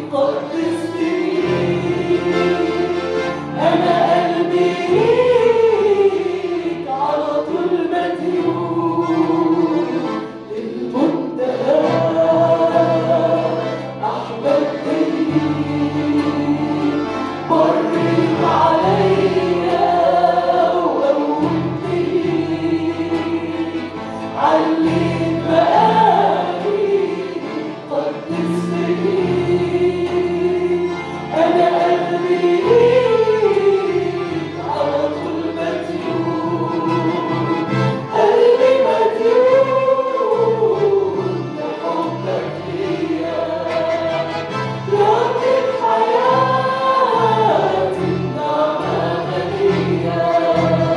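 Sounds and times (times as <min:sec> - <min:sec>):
group singing worship song: 0:00.0 - 0:50.9.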